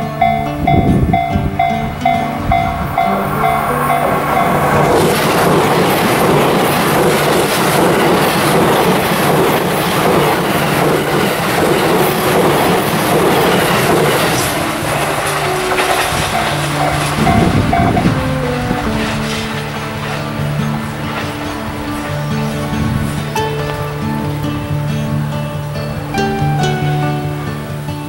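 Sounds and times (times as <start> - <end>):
train wheels clattering over joints: 0.0 - 24.5
background music: 0.0 - 28.0
rush of passing train: 0.0 - 28.0.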